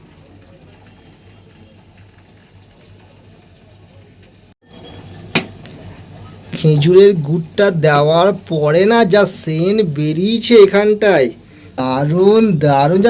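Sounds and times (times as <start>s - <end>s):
milk bubbling in a pan: 0.0s - 12.7s.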